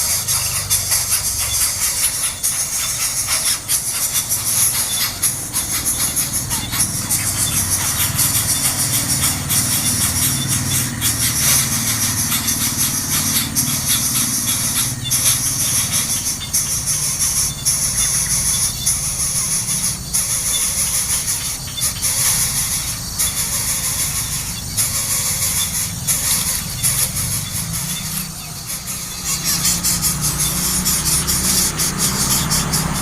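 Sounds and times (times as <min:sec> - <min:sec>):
nestling birds squealing: 0:00.0 - 0:33.0.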